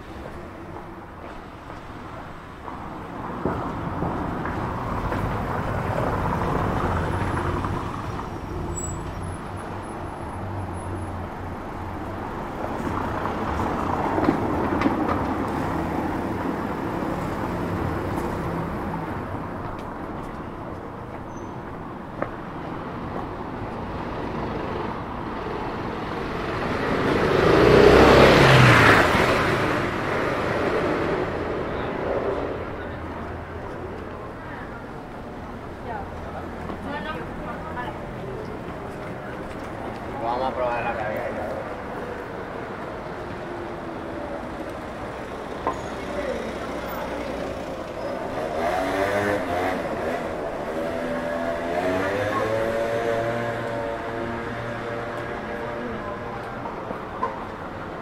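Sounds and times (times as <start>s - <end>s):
background traffic hum: 0.0s - 58.0s
cars passing: 0.0s - 58.0s.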